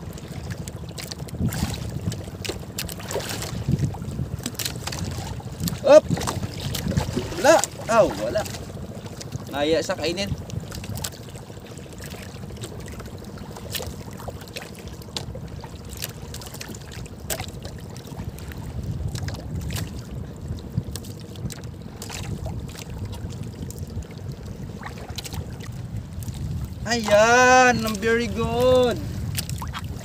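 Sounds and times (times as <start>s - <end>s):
water lapping against boat hull: 0.0s - 30.0s.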